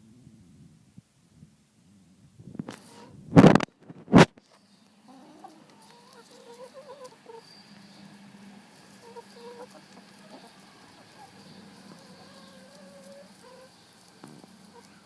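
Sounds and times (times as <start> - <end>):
chickens clucking: 2.6 - 15.0.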